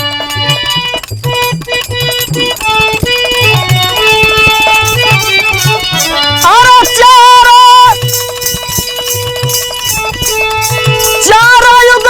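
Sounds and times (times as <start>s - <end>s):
reedy keyboard melody: 0.0s - 12.0s
steady drum beat: 0.0s - 12.0s.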